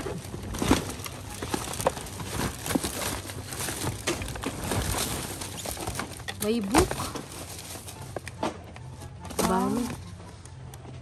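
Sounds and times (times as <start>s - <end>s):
rubbish knocking and clattering: 0.0s - 10.1s
plastic bags rustling: 0.0s - 10.4s.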